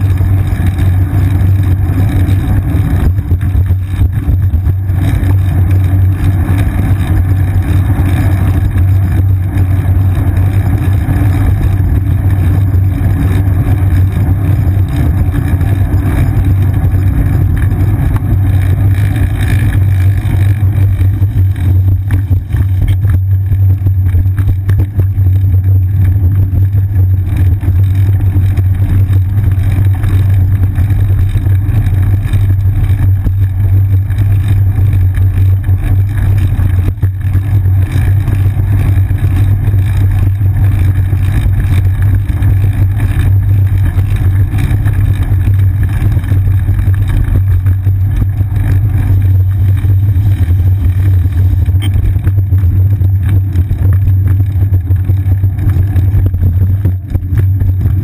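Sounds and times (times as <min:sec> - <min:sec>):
wind and road rumble: 0:00.0 - 0:58.0.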